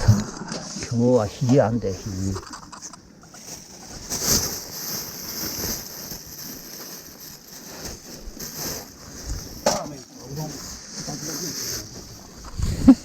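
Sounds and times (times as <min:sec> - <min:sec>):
rustling and scraping: 0:00.0 - 0:13.0.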